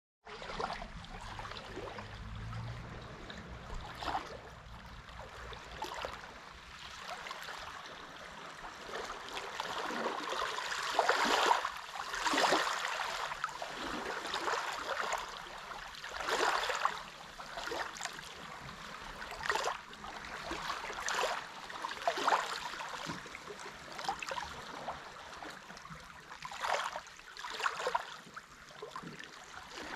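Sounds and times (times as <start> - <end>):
small waves lapping: 0.3 - 29.9.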